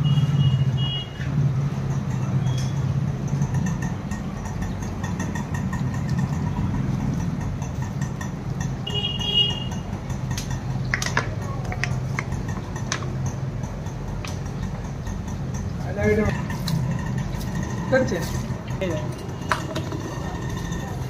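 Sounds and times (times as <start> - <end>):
engine idling: 1.6 - 21.0.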